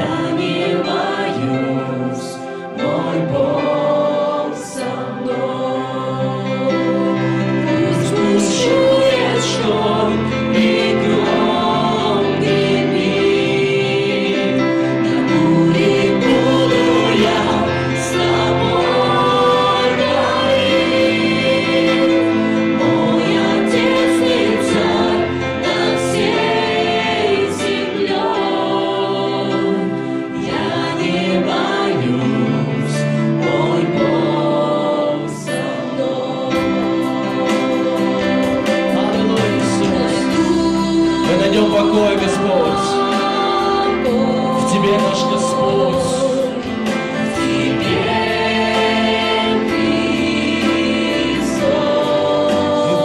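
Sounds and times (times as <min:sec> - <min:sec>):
electronic keyboard chords: 0:00.0 - 0:53.0
group singing into microphones: 0:00.0 - 0:53.0.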